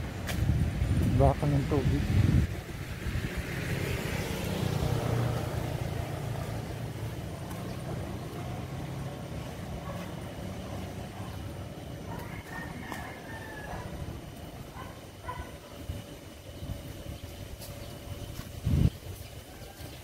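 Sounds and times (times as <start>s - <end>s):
vehicle passing: 0.7s - 17.1s.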